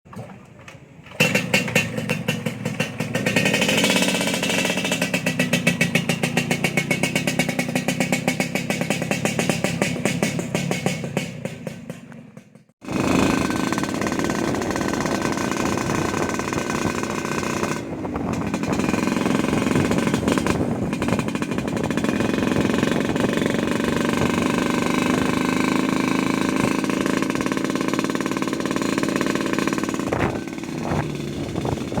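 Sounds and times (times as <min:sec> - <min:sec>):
two-stroke motorcycle engine rattling: 0:01.1 - 0:32.0.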